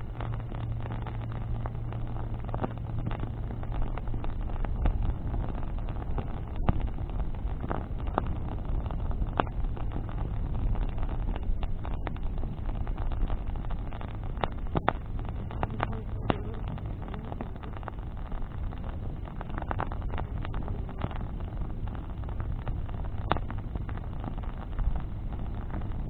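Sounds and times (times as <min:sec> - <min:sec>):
bonfire crackling and popping: 0:00.0 - 0:26.0
low fire rumble: 0:00.0 - 0:26.0.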